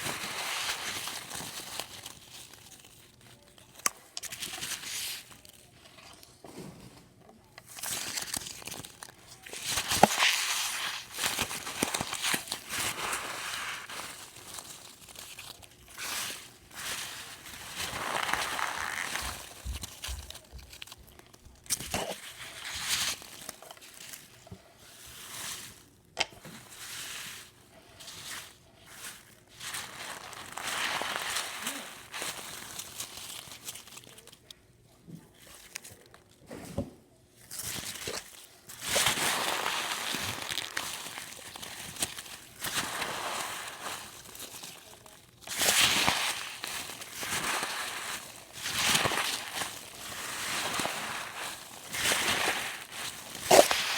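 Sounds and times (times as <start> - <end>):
packing peanuts crackling: 0.0 - 6.2, 7.5 - 34.6, 37.4 - 53.9.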